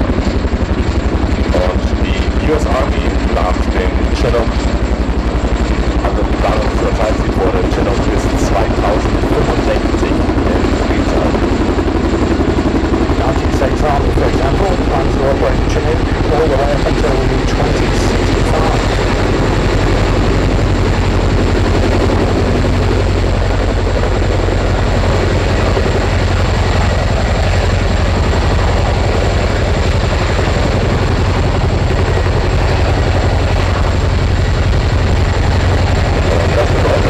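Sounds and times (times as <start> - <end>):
helicopter rotors chopping: 0.0 - 37.0
high-pitched whine: 0.0 - 37.0.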